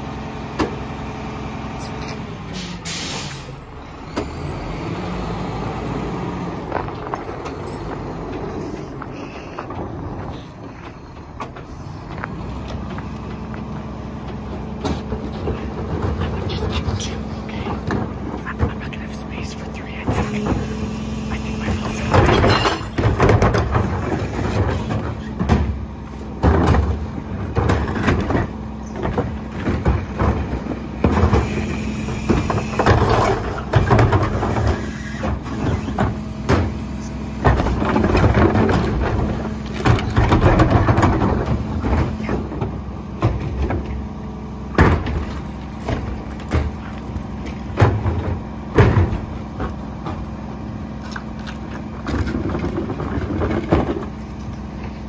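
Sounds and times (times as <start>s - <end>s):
garbage truck humming: 0.0s - 55.0s
wheeled carts banging and clattering: 6.6s - 18.9s, 20.1s - 55.0s.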